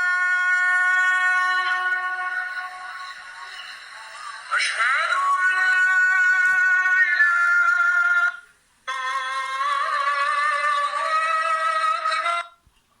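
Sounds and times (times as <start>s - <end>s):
music with held vocal notes: 0.0s - 12.7s.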